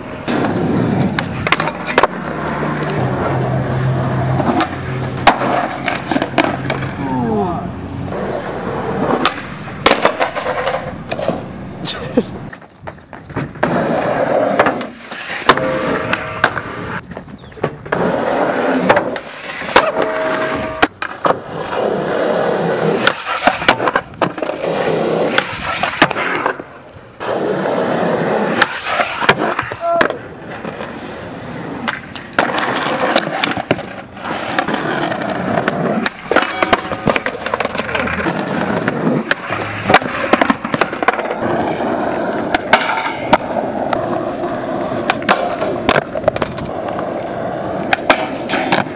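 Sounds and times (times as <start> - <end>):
skateboard clacks and slaps: 0.0 - 7.4, 8.9 - 11.5, 12.4 - 18.1, 18.8 - 48.9
skateboards rolling on pavement: 0.0 - 48.9.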